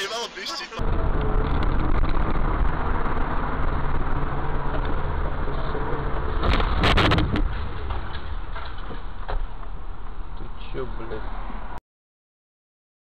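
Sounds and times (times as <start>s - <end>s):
car engine and road hum: 0.0s - 11.8s.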